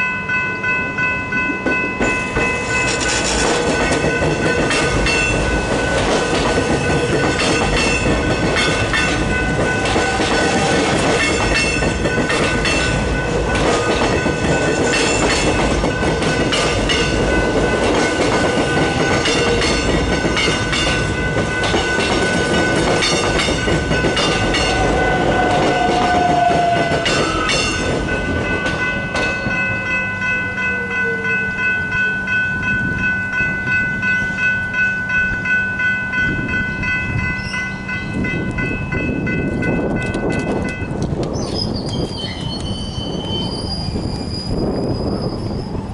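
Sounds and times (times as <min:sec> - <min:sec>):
crossing warning bells ringing: 0:00.0 - 0:45.9
train wheels clacking on rails: 0:01.4 - 0:30.8, 0:37.2 - 0:45.9.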